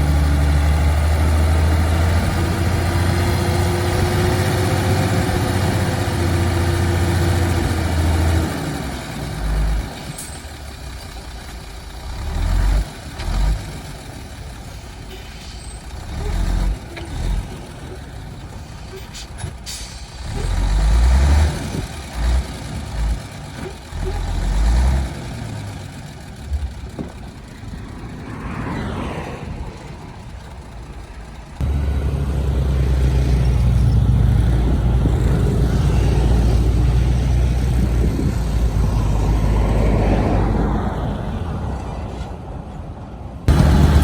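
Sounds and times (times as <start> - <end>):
heavy diesel engine rumbling: 0.0 - 44.0.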